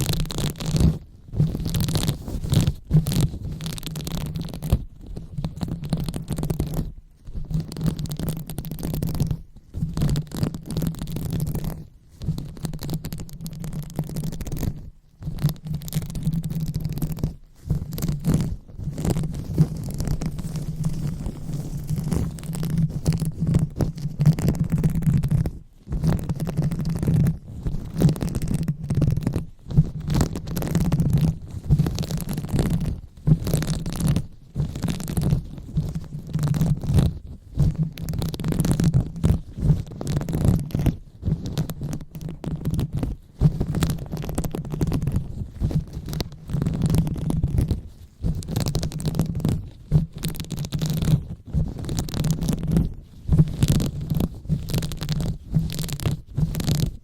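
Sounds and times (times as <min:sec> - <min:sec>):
fingers rubbing on a microphone: 0:00.0 - 0:57.0.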